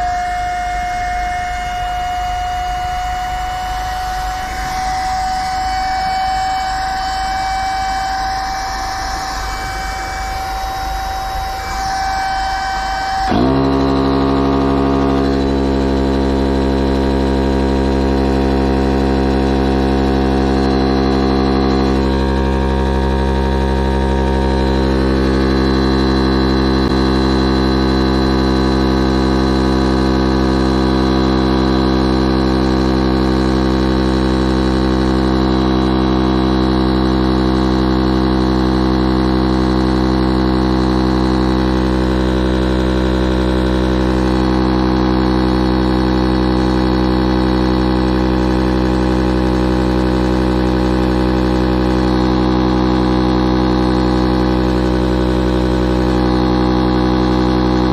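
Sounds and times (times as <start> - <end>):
electric air pump running: 0.0 - 57.9.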